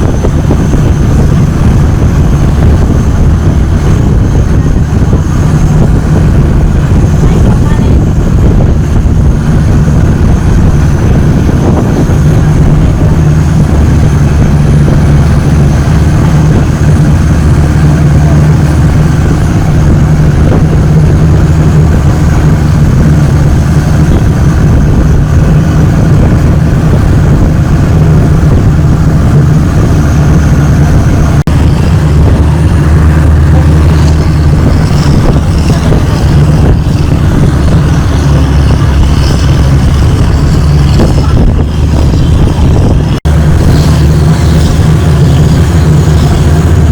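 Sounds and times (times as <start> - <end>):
boat engine drone: 0.0 - 46.9.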